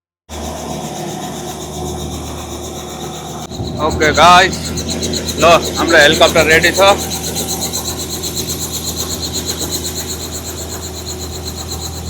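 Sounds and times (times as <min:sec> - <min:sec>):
helicopter running: 0:00.3 - 0:12.0.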